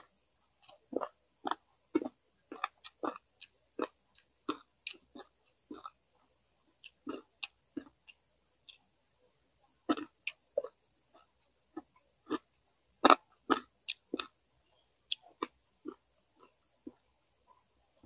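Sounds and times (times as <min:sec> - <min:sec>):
person chewing food: 0:00.0 - 0:06.1, 0:06.7 - 0:08.9, 0:09.7 - 0:14.4, 0:15.1 - 0:17.2.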